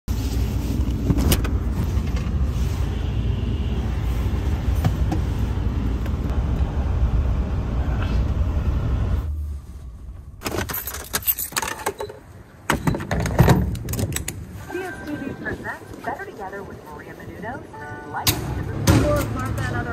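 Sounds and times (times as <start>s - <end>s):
road and engine rumble: 0.1s - 19.9s.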